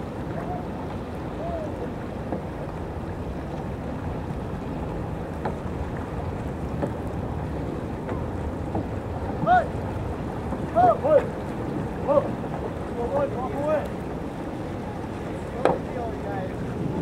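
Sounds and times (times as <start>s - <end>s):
ocean water lapping: 0.0s - 17.0s
wind buffeting microphone: 0.0s - 17.0s.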